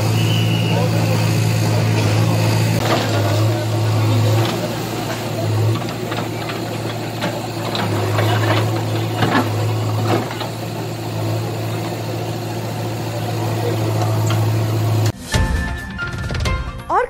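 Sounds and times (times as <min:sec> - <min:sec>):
diesel engine running: 0:00.0 - 0:15.2.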